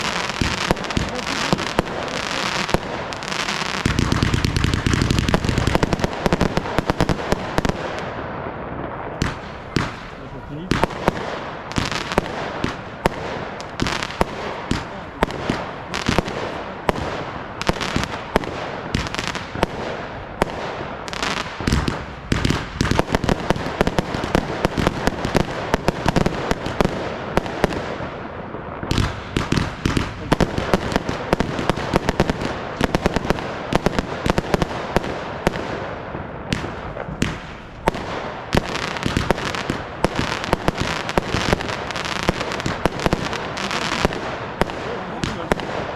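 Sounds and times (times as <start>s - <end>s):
fireworks bangs and crackling: 0.0s - 45.9s.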